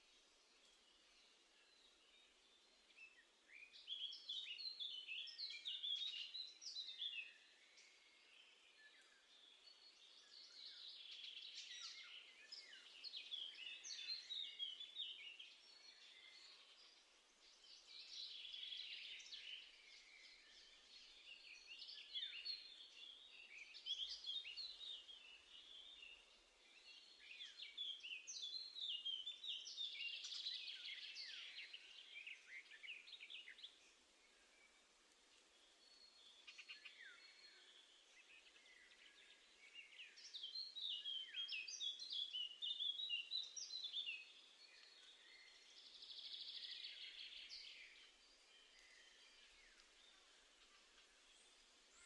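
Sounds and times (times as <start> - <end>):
songbird twittering: 0.8 - 34.8, 35.5 - 52.0.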